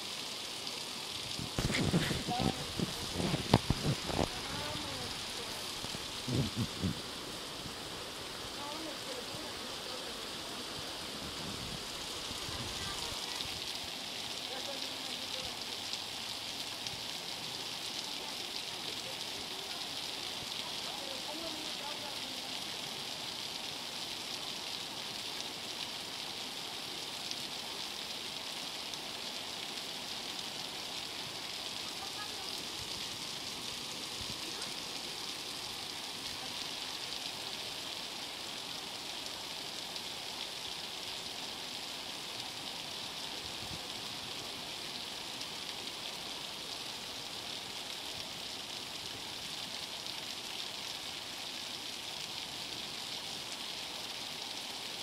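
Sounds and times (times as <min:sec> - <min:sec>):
floodwater rushing: 0:00.0 - 0:55.0
heavy rain pouring: 0:00.0 - 0:55.0.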